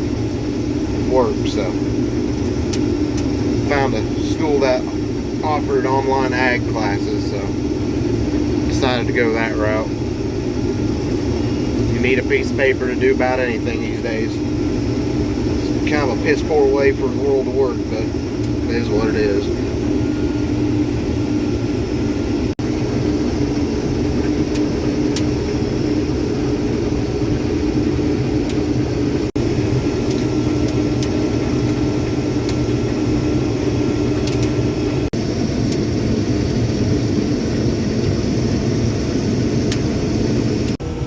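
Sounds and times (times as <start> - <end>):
combine harvester drone: 0.0 - 41.0.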